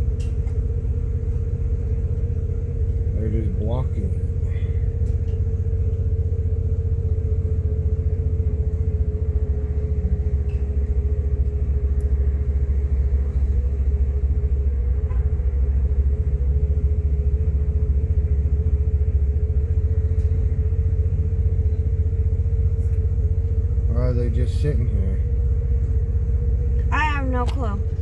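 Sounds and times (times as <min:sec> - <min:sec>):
steady hum: 0:00.0 - 0:28.0
vehicle idling rumble: 0:00.0 - 0:28.0.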